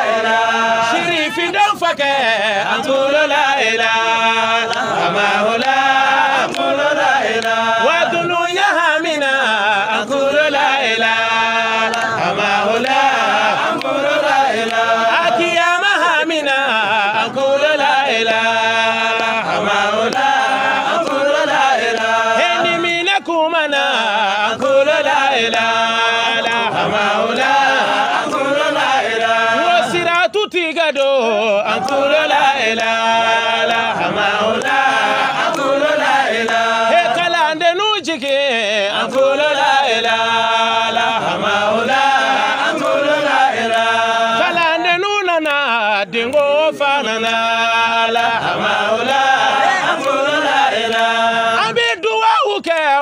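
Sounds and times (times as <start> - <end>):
man chanting devotional song: 0.0 - 53.0.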